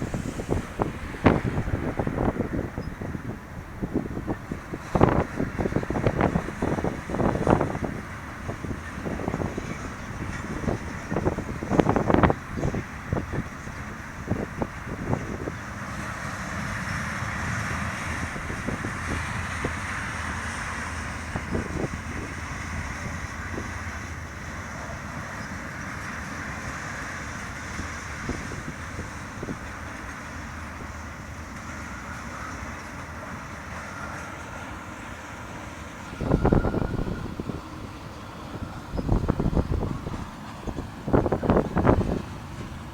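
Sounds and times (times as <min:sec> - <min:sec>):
faint steady squeal: 0:00.0 - 0:42.9
train wheels rumbling on rails: 0:00.0 - 0:42.9.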